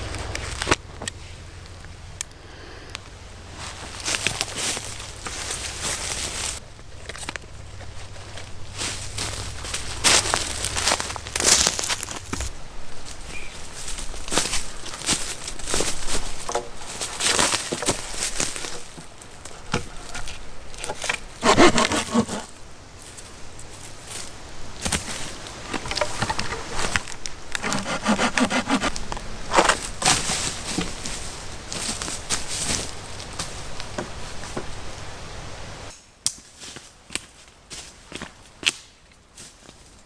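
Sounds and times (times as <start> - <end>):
dry wood cracking: 0.0 - 22.8, 24.8 - 34.6
branches scraping: 0.0 - 36.0.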